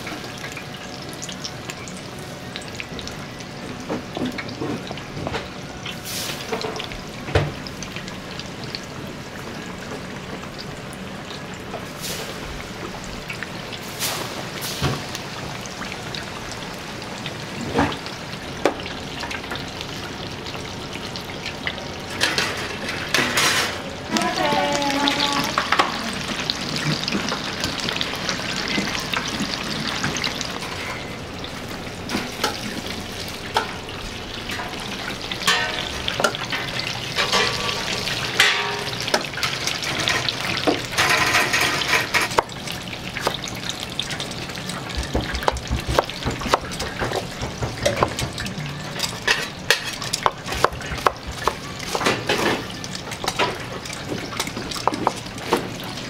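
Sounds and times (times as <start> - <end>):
oil sizzling in fryer: 0.0 - 56.0.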